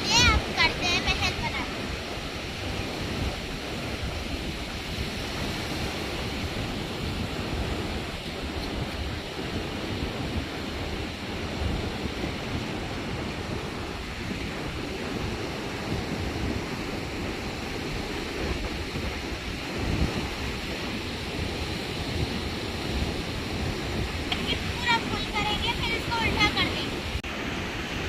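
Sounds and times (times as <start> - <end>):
ocean surf washing onto beach: 0.0 - 28.0
wind buffeting microphone: 0.0 - 28.0.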